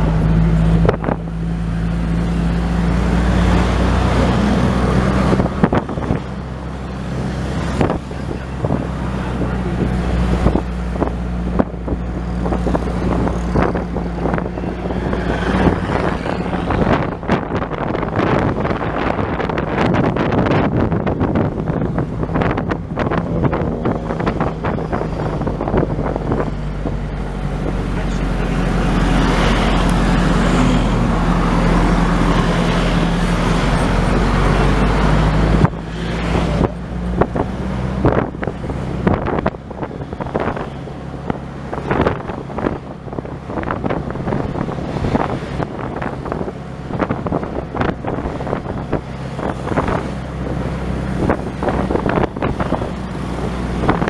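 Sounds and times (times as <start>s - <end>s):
vehicle engine hum: 0.0s - 54.0s
wind buffeting microphone: 0.0s - 54.0s.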